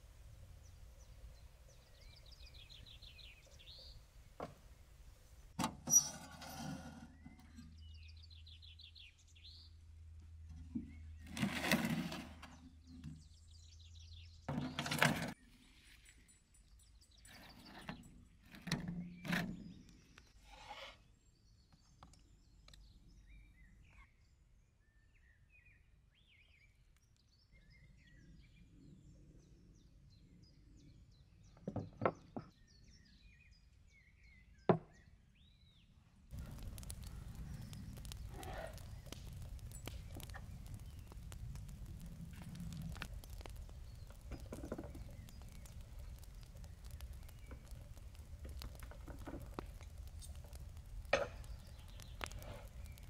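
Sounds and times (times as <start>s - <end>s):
small birds chirping: 0.4s - 6.1s, 6.9s - 11.5s, 12.4s - 53.0s.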